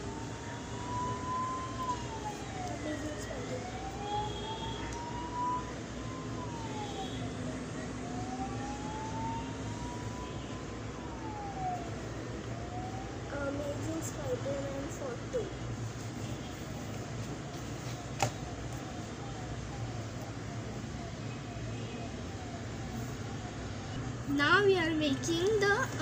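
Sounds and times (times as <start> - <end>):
siren wailing: 0.0 - 15.0, 18.1 - 24.7.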